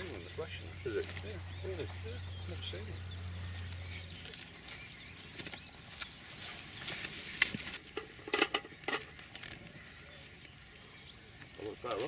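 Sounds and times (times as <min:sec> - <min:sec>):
rustling handling noise: 0:00.0 - 0:12.0.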